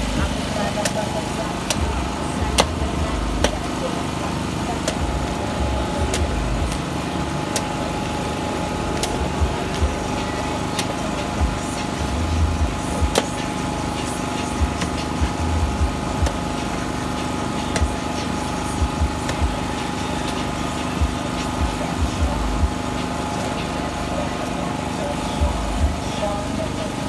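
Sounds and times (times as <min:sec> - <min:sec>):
engine hum: 0:00.0 - 0:27.0
cleaver chopping coconut: 0:00.1 - 0:23.5.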